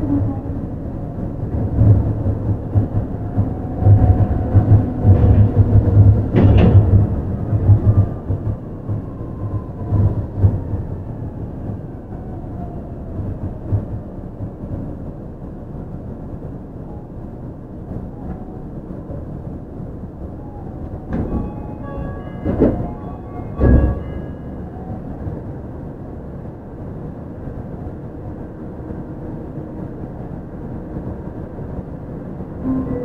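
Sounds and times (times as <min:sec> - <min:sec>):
monorail inverter whine: 0:00.0 - 0:33.0
train running rumble: 0:00.0 - 0:33.0.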